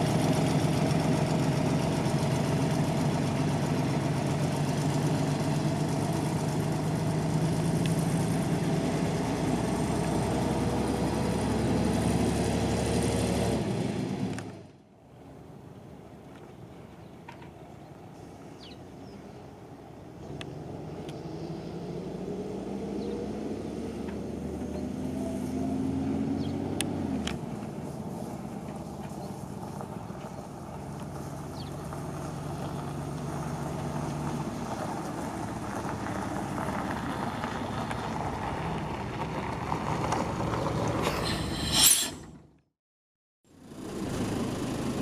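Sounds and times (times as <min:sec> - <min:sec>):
bus diesel engine: 0:00.0 - 0:42.6, 0:43.5 - 0:45.0.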